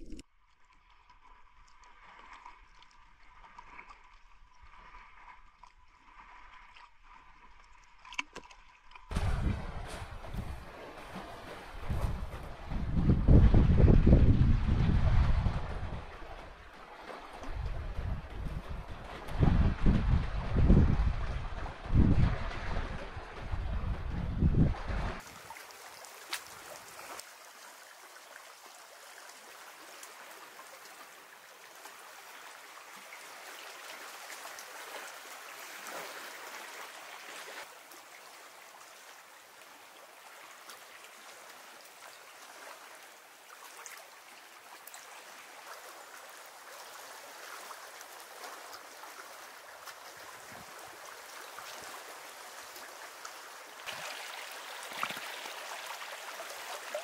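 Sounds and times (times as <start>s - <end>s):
trickling gurgling water: 0.0s - 57.0s.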